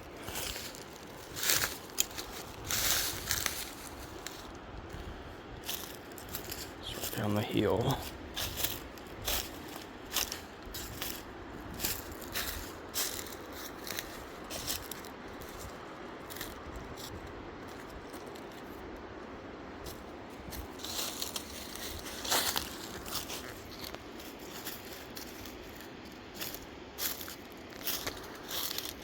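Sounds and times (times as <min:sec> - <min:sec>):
footsteps crunching through undergrowth: 0:00.0 - 0:18.8, 0:19.8 - 0:29.0.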